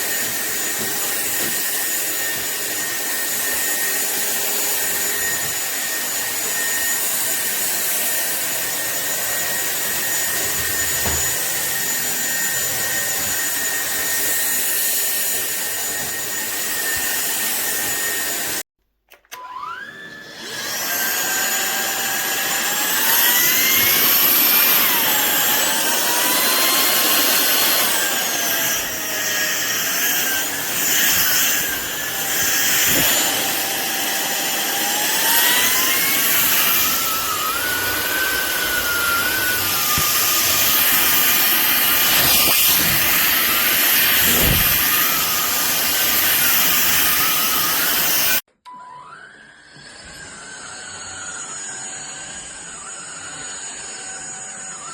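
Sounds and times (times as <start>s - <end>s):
stick vacuum cleaner whine: 0.0s - 54.9s.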